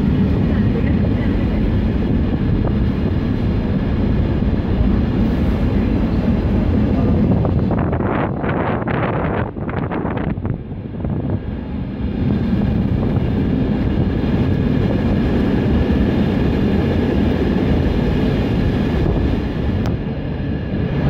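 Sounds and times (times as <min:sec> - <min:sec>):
freight train wheels on rail: 0:00.0 - 0:21.0.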